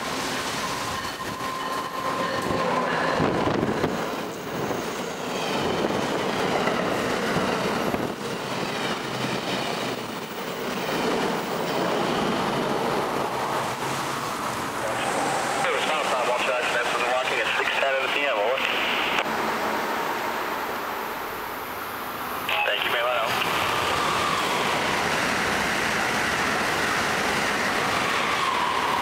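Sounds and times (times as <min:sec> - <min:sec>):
train wheels rushing on rail: 0:00.0 - 0:29.0.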